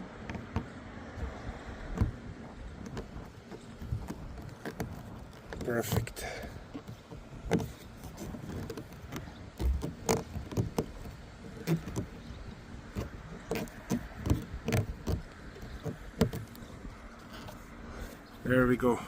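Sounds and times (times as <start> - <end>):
handling clicks and knocks: 0.0 - 18.8.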